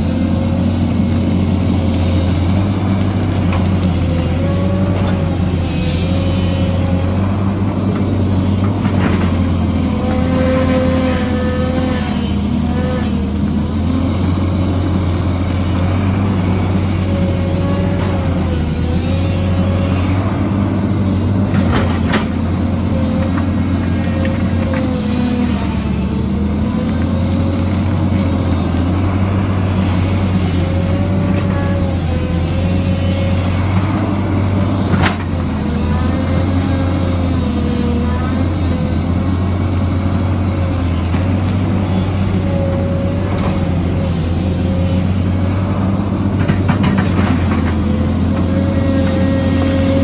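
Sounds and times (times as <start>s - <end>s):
diesel engine running under load: 0.0s - 50.0s.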